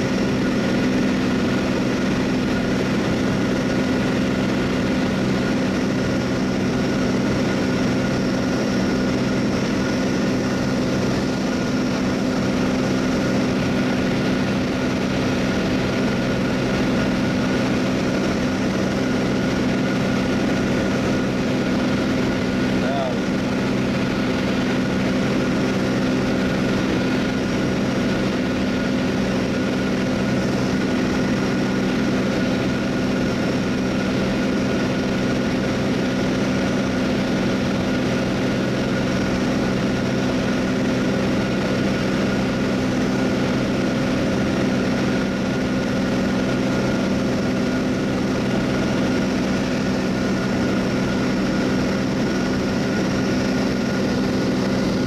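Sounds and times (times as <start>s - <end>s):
aircraft engine drone: 0.0s - 55.0s.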